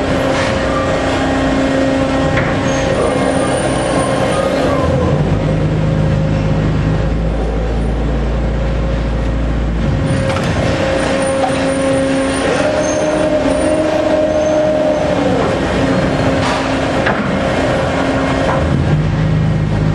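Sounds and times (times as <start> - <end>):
machine hum with whining tones: 0.0 - 19.9.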